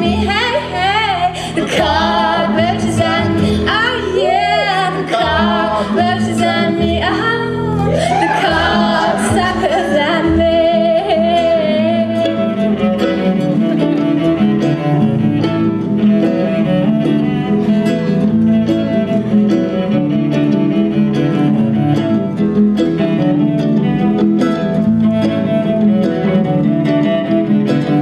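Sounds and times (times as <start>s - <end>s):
acoustic guitar strumming: 0.0s - 28.0s
held instrumental notes: 0.0s - 28.0s.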